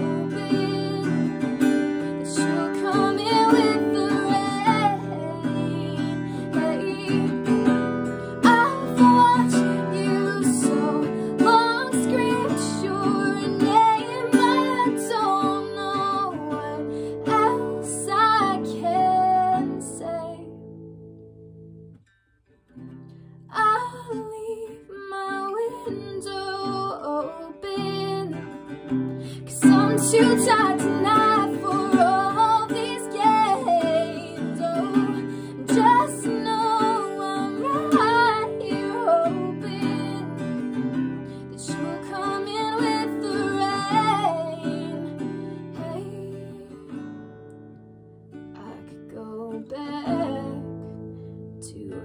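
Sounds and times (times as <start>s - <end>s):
woman singing: 0.0s - 20.7s, 23.5s - 47.2s, 48.5s - 52.0s
strummed acoustic guitar: 0.0s - 52.0s.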